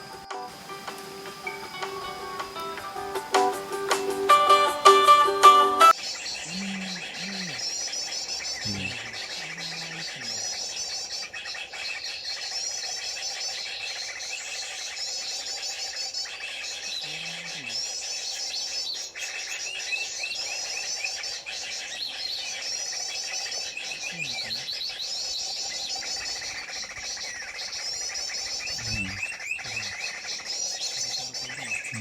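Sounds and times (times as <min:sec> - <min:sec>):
songbird twittering: 0:00.0 - 0:32.0.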